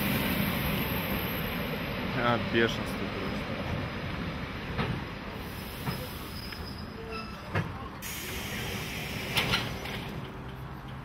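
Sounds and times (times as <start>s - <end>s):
train cars rumbling: 0.0s - 11.0s.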